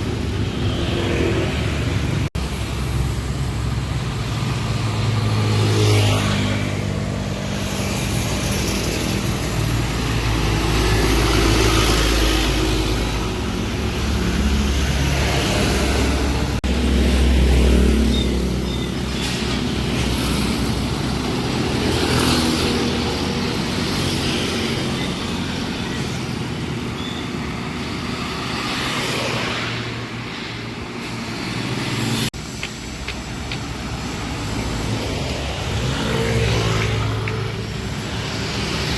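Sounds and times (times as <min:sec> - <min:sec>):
vehicles passing uphill: 0:00.0 - 0:38.9.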